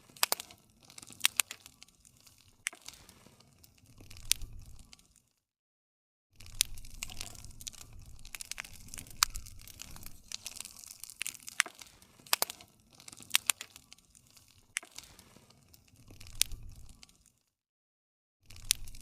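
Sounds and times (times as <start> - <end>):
wood fire crackling: 0.0 - 5.4, 6.4 - 17.6, 18.5 - 19.0.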